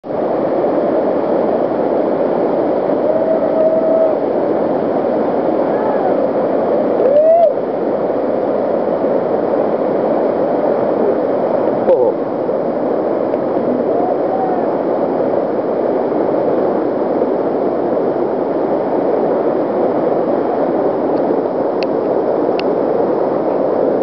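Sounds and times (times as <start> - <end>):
whitewater rapid rushing: 0.1 - 24.0.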